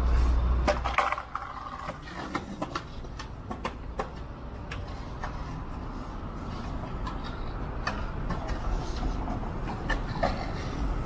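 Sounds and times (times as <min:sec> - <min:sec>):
street traffic hum: 0:00.0 - 0:11.0
vehicle rumble: 0:00.0 - 0:11.0.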